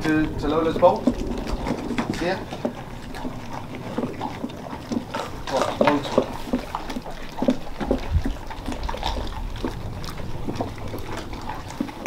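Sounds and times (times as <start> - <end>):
dogs chewing and crunching: 0.0 - 12.0
low rumble: 0.0 - 12.0.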